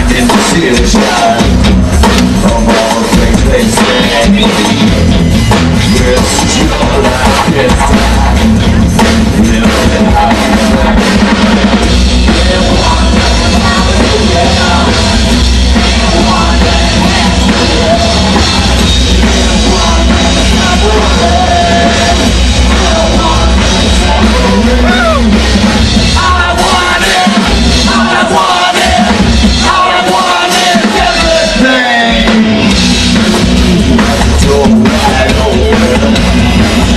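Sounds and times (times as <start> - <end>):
person singing: 0.0 - 5.1, 5.8 - 32.8, 33.6 - 36.9
loud live rock band: 0.0 - 36.9.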